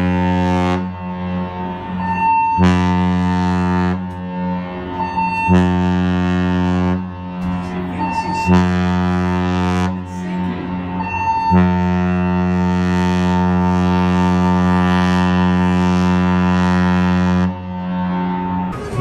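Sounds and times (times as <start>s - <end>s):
deep ship horn blasts: 0.0s - 19.0s.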